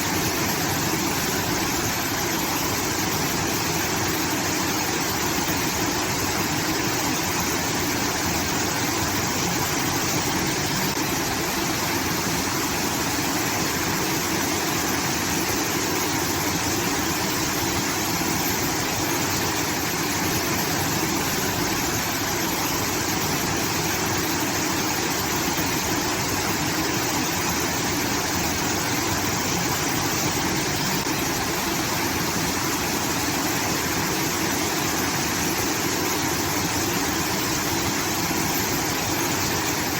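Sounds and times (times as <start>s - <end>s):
water pouring steadily: 0.0s - 39.9s.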